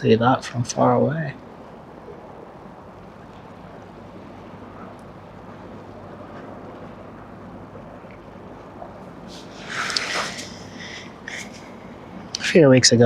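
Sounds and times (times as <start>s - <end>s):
wind on microphone: 0.0s - 12.8s
boat engines humming: 0.0s - 13.0s.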